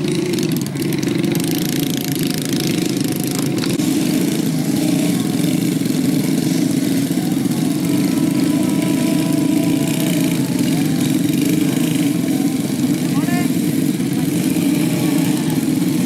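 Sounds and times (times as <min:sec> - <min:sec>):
small motorcycle engines revving: 0:00.0 - 0:16.0.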